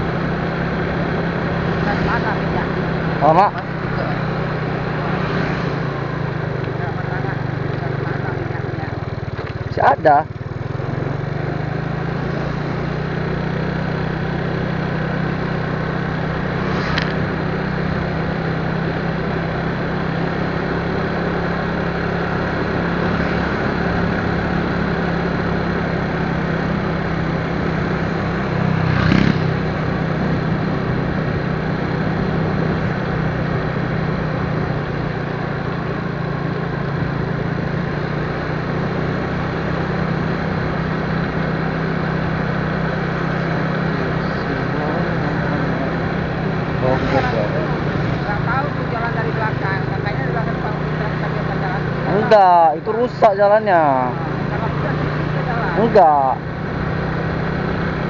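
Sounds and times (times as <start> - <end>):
road noise hiss: 0.0 - 58.0
vehicle engine running: 0.0 - 58.0.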